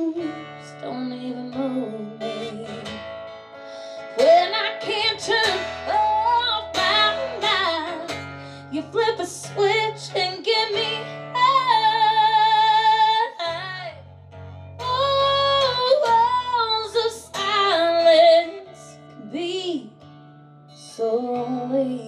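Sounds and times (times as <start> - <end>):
woman singing: 0.0 - 3.1, 4.0 - 14.1, 14.8 - 20.1, 20.8 - 22.0
acoustic guitar: 0.0 - 22.0.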